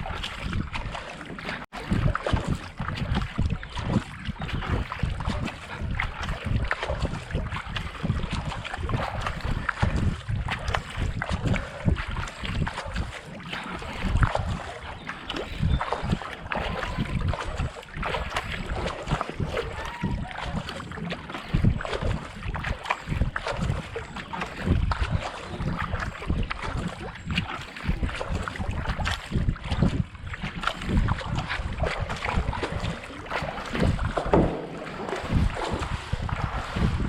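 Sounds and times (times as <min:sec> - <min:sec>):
kayak paddle splashing: 0:00.0 - 0:37.0
wind buffeting microphone: 0:00.0 - 0:37.0.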